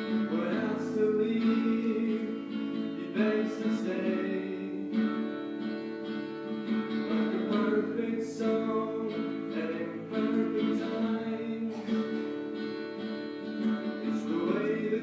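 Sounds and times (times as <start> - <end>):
acoustic guitar strumming chords: 0.0 - 15.0
small band playing: 0.0 - 15.0.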